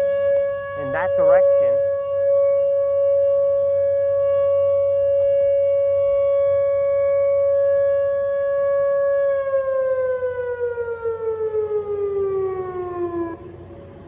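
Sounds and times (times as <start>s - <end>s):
tornado siren winding down: 0.0s - 14.0s.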